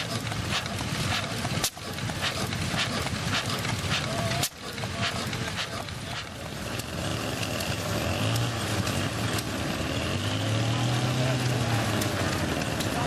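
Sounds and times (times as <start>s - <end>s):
old stationary engines running: 0.0s - 13.0s.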